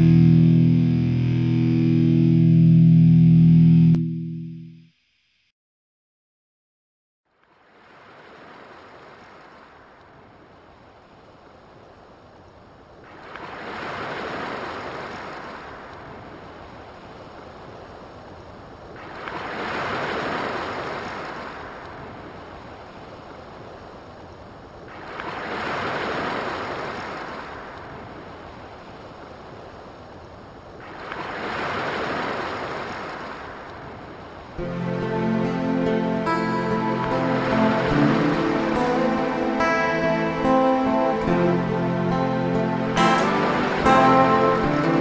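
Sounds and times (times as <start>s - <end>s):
ocean waves washing: 7.6s - 45.0s.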